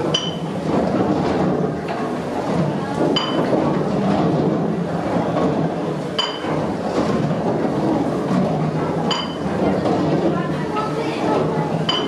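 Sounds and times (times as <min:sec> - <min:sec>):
steam engine clatter and rumble: 0:00.0 - 0:12.0.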